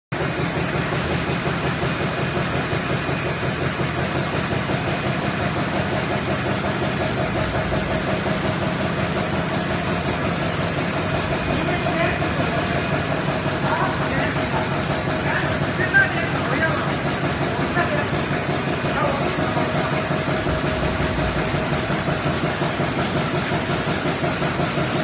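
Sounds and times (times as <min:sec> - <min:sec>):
steady machine hum: 0:00.1 - 0:25.0
die cutting machine chatter: 0:00.2 - 0:25.0.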